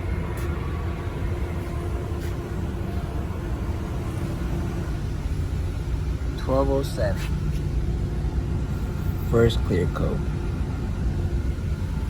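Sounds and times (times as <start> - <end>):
faint hum: 0.0 - 12.0
low mechanical rumble: 0.0 - 12.0.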